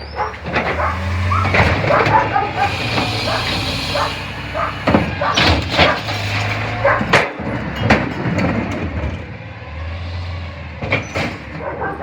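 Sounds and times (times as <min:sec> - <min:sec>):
garbage truck engine and hydraulic hum: 0:00.0 - 0:12.0
metal clanks and bangs: 0:00.1 - 0:12.0.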